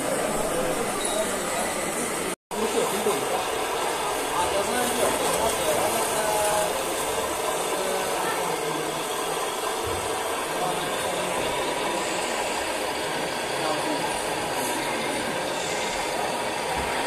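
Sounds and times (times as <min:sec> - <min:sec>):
whir of small electric motors: 0:00.2 - 0:17.0.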